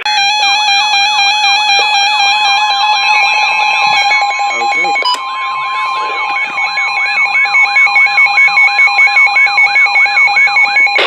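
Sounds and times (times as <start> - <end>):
steady alarm tone: 0.0 - 11.0
warbling siren: 0.0 - 11.0.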